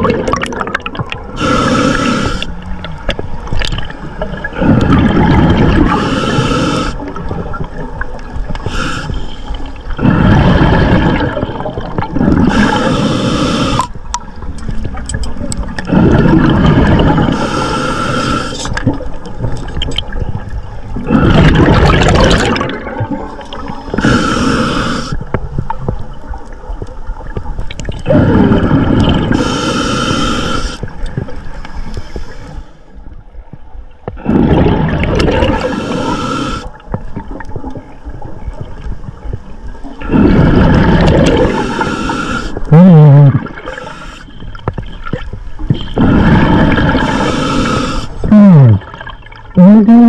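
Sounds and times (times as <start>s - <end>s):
rushing bubbling water: 0.0s - 31.6s, 34.1s - 50.0s
water gurgling: 0.0s - 31.9s, 34.0s - 50.0s.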